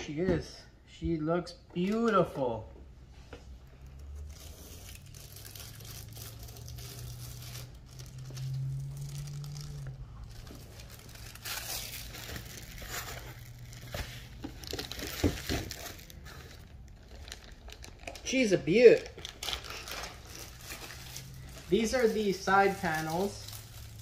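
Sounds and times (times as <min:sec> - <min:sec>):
plastic bag crinkling: 0:03.7 - 0:24.0.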